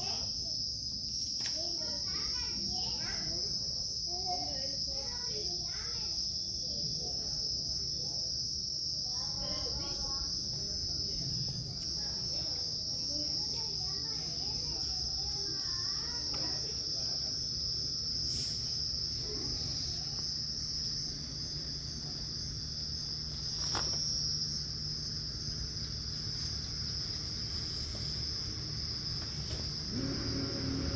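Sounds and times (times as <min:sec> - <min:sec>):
crickets trilling: 0:00.0 - 0:30.9.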